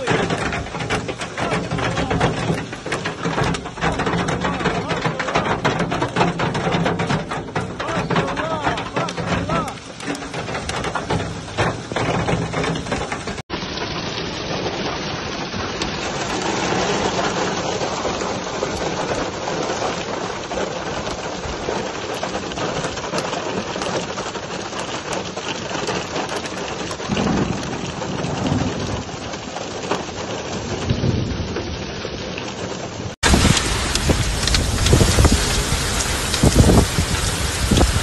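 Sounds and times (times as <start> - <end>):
hail ticking: 0.0 - 38.0
rain pelting ground: 0.0 - 38.0.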